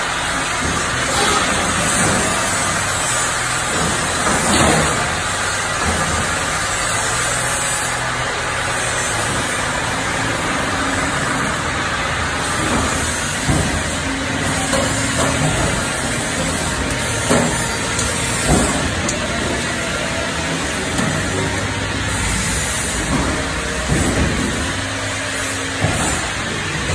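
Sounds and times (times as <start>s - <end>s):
machine mechanical drone: 0.0s - 26.9s.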